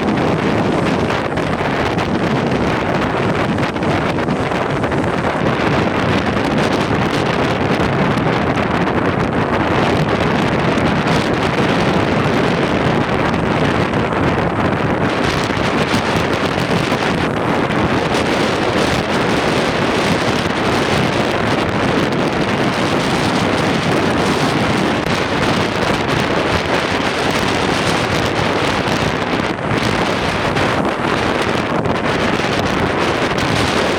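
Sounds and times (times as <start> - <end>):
strong wind on microphone: 0.0 - 33.9.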